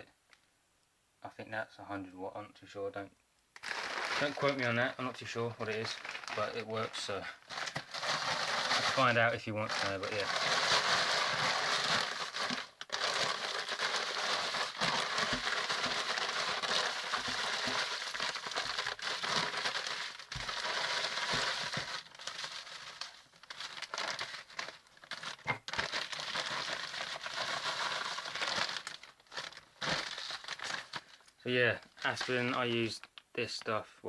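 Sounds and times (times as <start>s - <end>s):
plastic bag crinkling: 3.6s - 33.2s.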